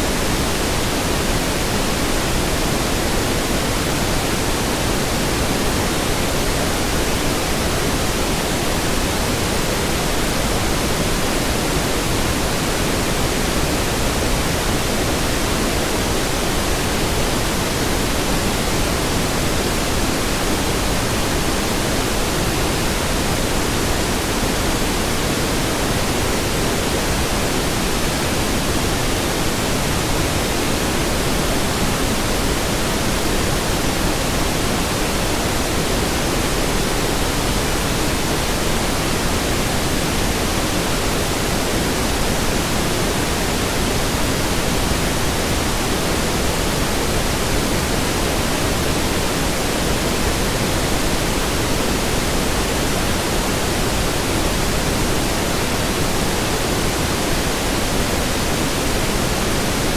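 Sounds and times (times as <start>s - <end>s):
pink noise: 0.0s - 59.9s.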